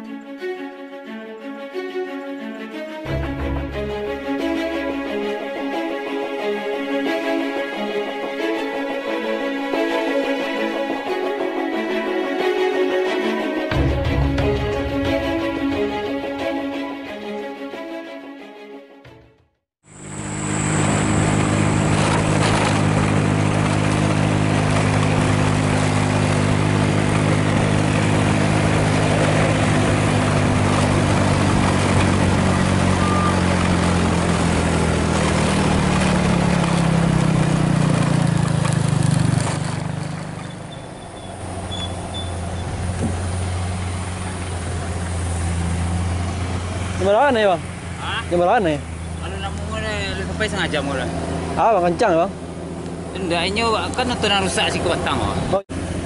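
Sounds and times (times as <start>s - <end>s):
heavy vehicle engines droning: 3.0s - 17.1s, 19.9s - 56.0s.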